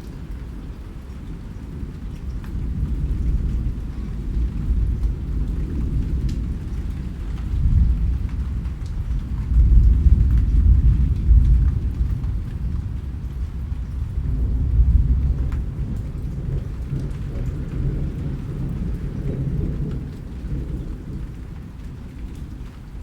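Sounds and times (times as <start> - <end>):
rain falling: 0.0 - 23.0
raindrop ticks: 0.0 - 23.0.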